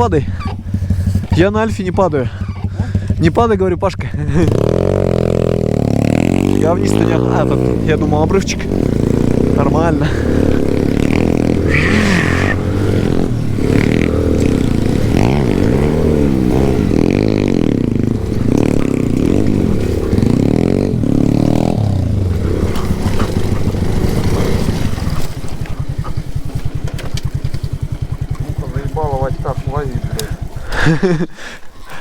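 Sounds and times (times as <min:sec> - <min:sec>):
moped engine revving: 0:00.0 - 0:32.0.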